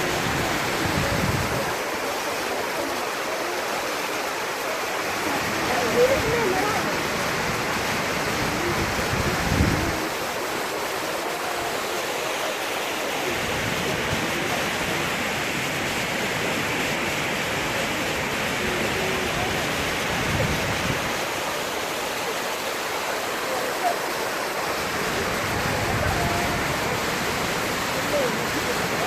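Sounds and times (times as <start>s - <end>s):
faint voices: 0.0s - 29.0s
waterfall rushing: 0.0s - 29.0s.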